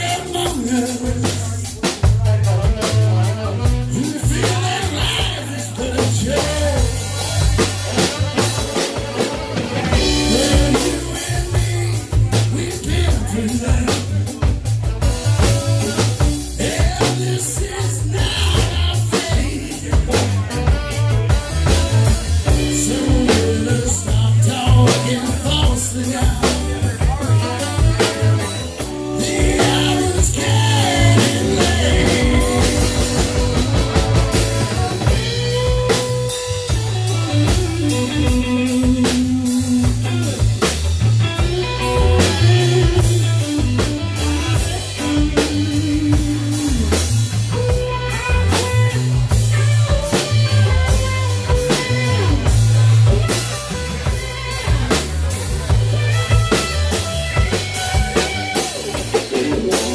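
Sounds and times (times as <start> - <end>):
drum kit: 0.0 - 59.9
electric bass: 0.0 - 59.9
lead guitar bending notes: 2.5 - 59.9.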